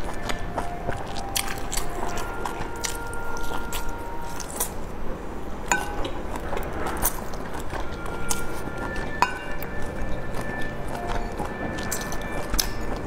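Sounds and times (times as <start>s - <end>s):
person biting and chewing: 0.0s - 4.9s, 6.0s - 13.0s.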